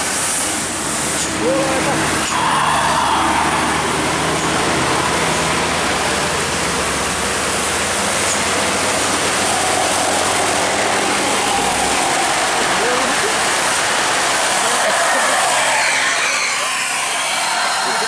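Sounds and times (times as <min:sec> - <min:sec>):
bus engine humming: 0:00.0 - 0:18.0
rain hissing: 0:00.0 - 0:18.0
tyres hissing on wet road: 0:00.0 - 0:18.0.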